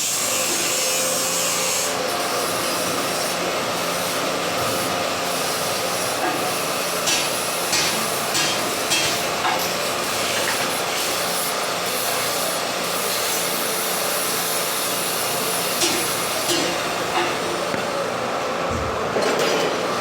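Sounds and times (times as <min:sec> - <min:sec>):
welding arc crackling and hissing: 0:00.0 - 0:17.9.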